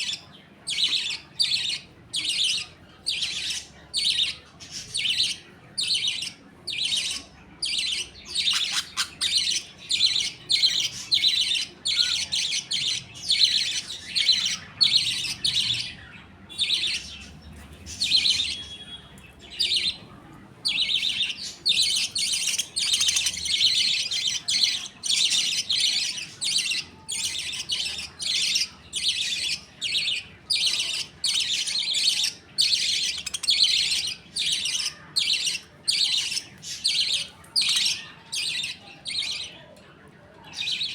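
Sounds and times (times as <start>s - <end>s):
budgerigars chattering: 0.0s - 20.0s, 20.6s - 39.6s.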